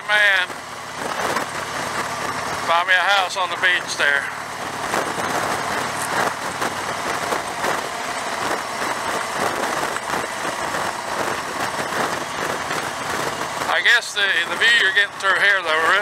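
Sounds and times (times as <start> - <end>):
wind rushing over microphone: 0.0 - 15.3
motorcycle engine running: 0.0 - 16.0.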